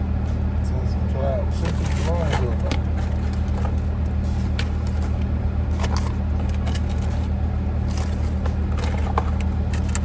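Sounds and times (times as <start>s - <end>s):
car engine idling: 0.5s - 10.0s.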